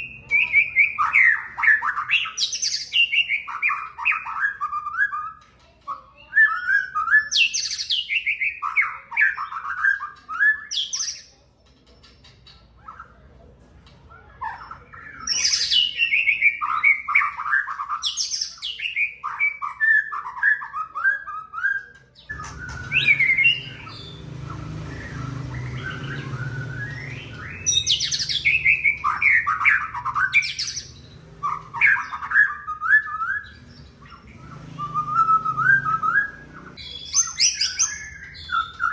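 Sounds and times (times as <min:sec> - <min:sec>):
bird singing whistled phrases: 0:00.0 - 0:11.3, 0:14.8 - 0:38.9.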